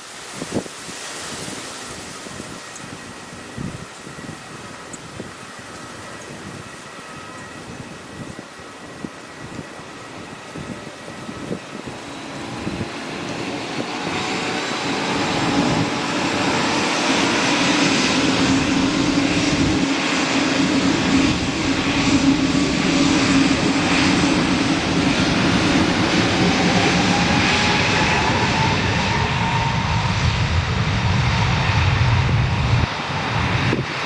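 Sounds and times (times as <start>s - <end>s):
jet engines whining: 0.1s - 34.0s.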